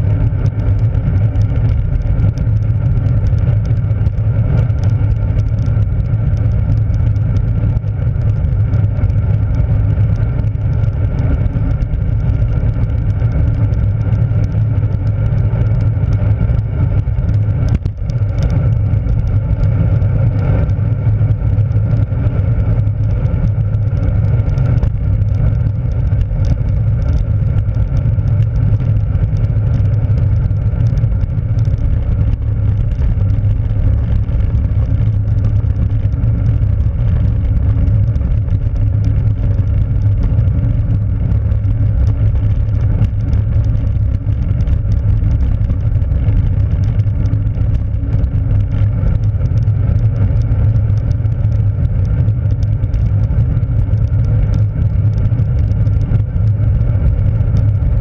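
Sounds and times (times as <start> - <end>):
bike tyres rolling on rough road: 0.0 - 58.0.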